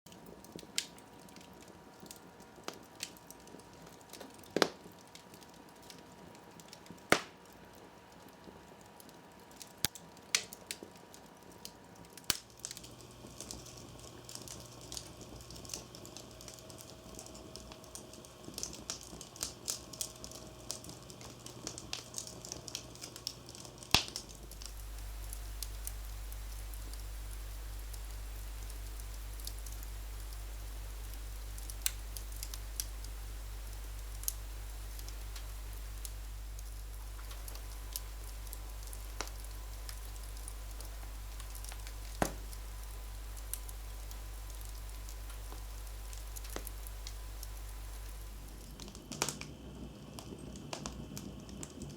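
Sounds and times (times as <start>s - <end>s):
wood fire crackling and popping: 0.1s - 51.9s.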